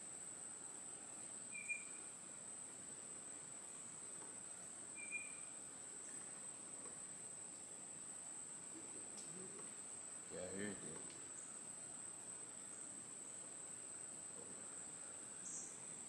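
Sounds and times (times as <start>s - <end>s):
insects trilling: 1.2s - 16.0s.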